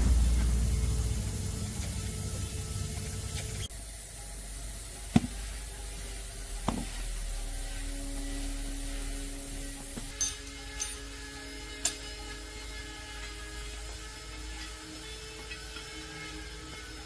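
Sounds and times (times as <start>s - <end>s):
steady low hum: 0.0s - 17.0s
steady tone: 0.0s - 17.0s.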